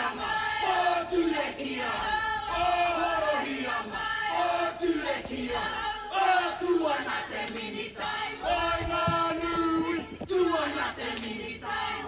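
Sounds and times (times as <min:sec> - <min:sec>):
many voices chanting: 0:00.0 - 0:12.0.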